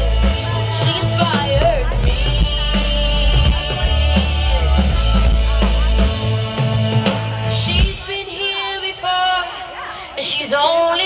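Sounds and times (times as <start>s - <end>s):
rock band playing: 0.0s - 9.4s
person singing: 0.0s - 11.0s.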